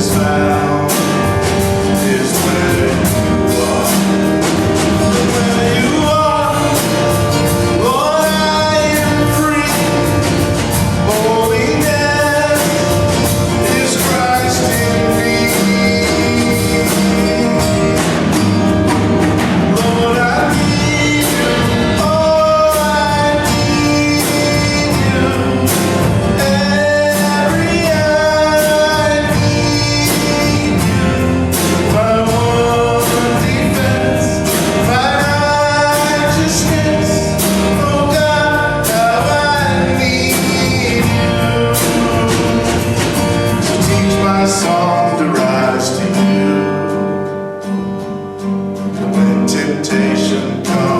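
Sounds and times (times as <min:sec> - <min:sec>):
voices singing worship song: 0:00.0 - 0:18.6, 0:19.6 - 0:46.6
band with drum beat: 0:00.0 - 0:50.9.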